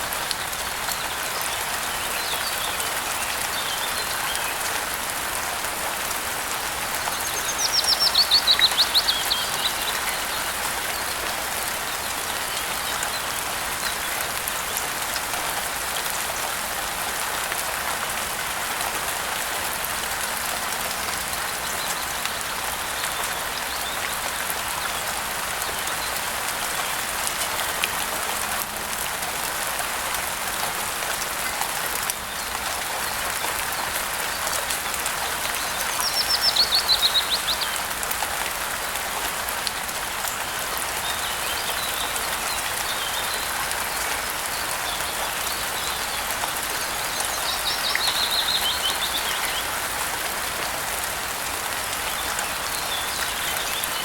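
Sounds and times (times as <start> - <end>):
steady rainfall hissing: 0.0 - 54.0.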